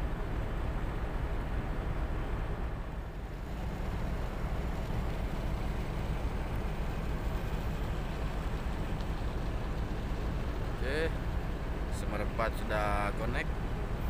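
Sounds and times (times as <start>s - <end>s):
boat engine rumbling: 0.0s - 14.0s
wind: 0.0s - 14.0s.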